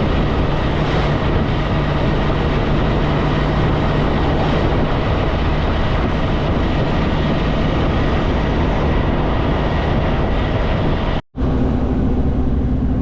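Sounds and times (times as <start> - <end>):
diesel truck engine drone: 0.0 - 13.0
tyres on highway: 0.0 - 13.0.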